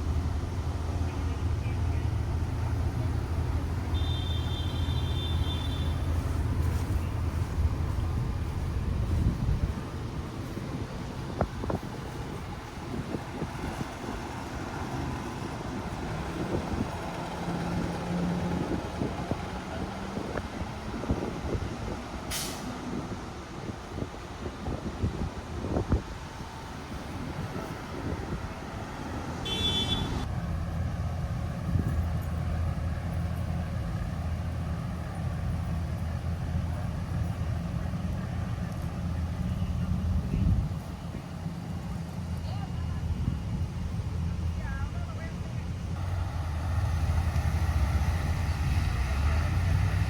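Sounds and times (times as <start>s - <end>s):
large vehicle engine running: 0.0s - 50.0s
wind rumbling on microphone: 5.1s - 32.4s, 33.7s - 50.0s.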